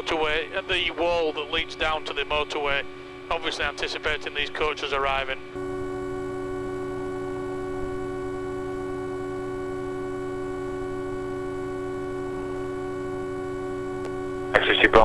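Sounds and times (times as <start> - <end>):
steady hum of held tones: 0.0 - 15.0.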